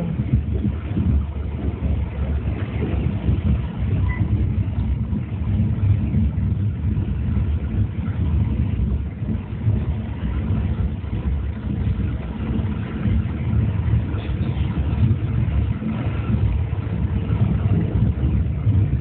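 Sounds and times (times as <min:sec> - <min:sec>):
train rumbling from inside: 0:00.0 - 0:19.0.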